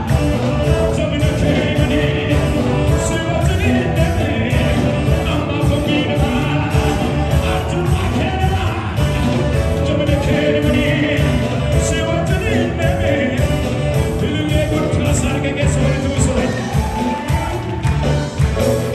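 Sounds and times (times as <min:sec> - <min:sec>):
man singing into a microphone: 0:00.0 - 0:18.2
drum kit: 0:00.0 - 0:18.9
electric guitars: 0:00.0 - 0:18.9
saxophone: 0:00.0 - 0:18.9.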